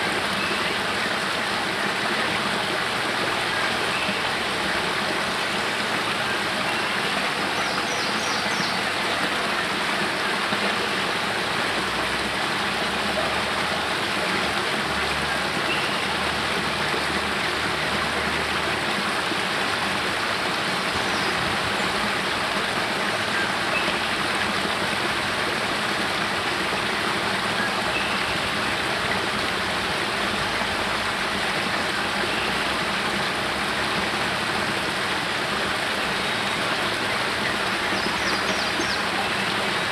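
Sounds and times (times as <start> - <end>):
water rushing down rocky cascade: 0.0 - 39.9.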